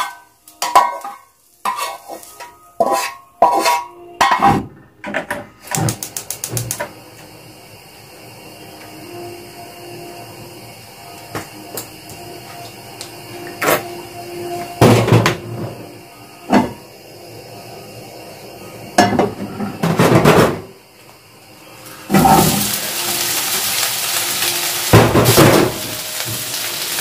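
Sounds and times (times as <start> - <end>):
onion sizzling in hot oil: 0.0 - 3.8, 5.7 - 27.0.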